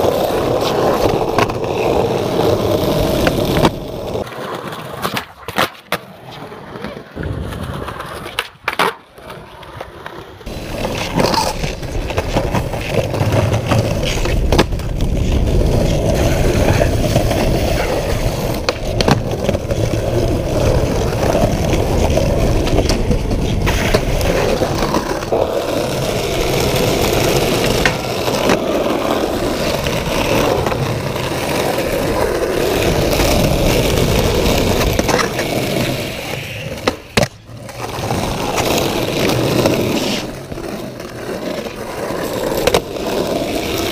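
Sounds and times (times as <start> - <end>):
skateboard clacking: 0.0 - 43.9
skateboard wheels rolling on concrete: 0.0 - 43.9.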